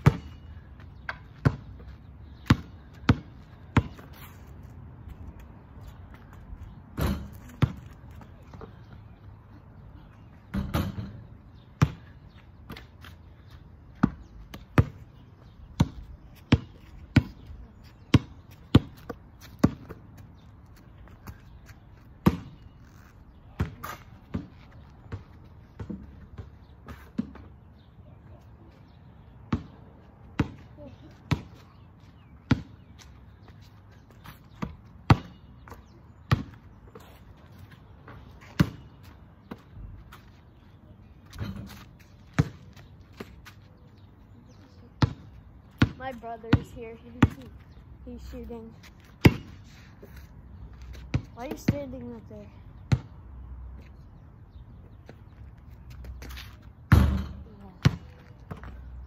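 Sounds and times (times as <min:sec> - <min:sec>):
ball bouncing on pavement: 0:00.0 - 0:09.2, 0:10.1 - 0:27.9, 0:29.0 - 0:54.0, 0:54.8 - 0:59.0.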